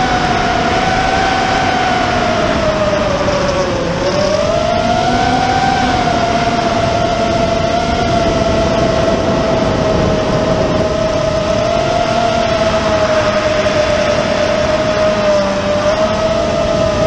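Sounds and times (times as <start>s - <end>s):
drone motors whining: 0.0s - 17.0s
prop wash and wind noise: 0.0s - 17.0s.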